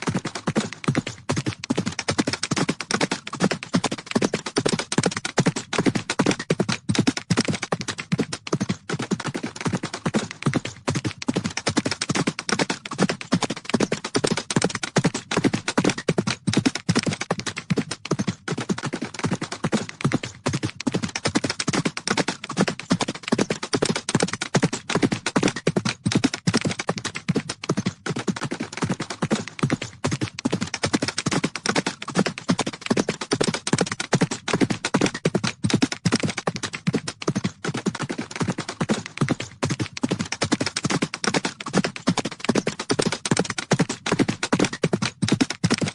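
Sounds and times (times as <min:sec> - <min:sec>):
horses hoofbeats galloping: 0:00.0 - 0:45.9.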